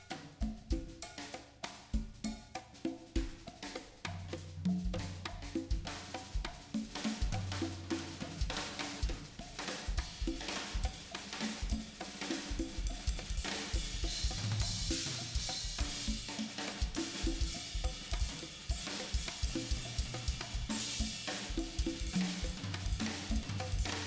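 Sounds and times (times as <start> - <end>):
drum kit playing: 1.9 - 24.0.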